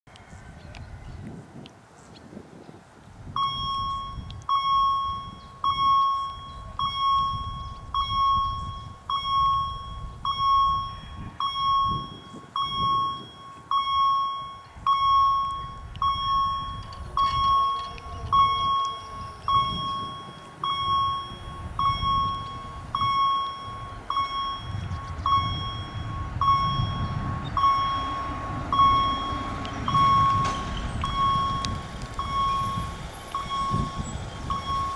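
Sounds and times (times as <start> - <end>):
low rumble: 3.2 - 34.9
crossing warning bell dinging: 3.4 - 34.9.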